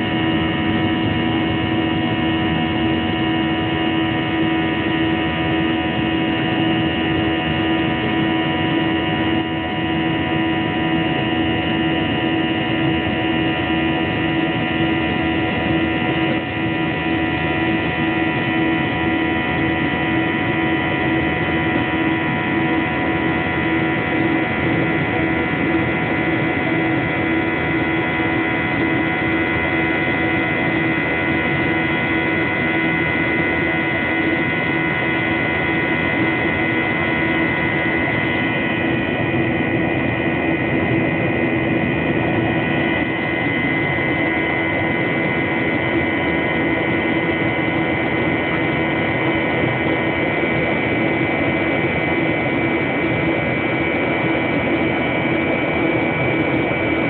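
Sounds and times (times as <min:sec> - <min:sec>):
aircraft cabin engine rush: 0:00.0 - 0:57.0
steady humming tones: 0:00.0 - 0:57.0.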